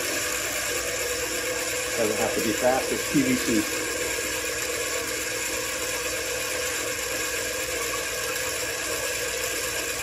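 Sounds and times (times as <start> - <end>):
end mill cutting plastic pipe: 0.0 - 10.0
lathe running: 0.0 - 10.0.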